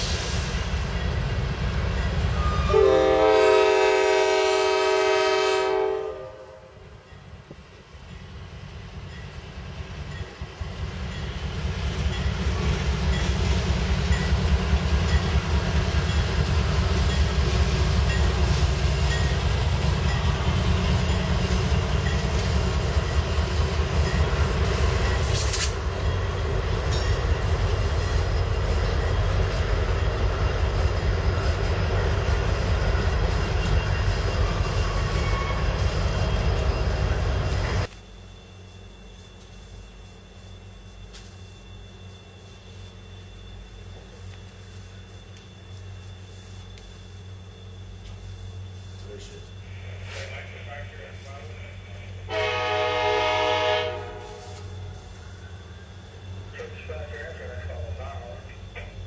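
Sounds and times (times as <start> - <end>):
diesel locomotives: 0.0 - 59.0.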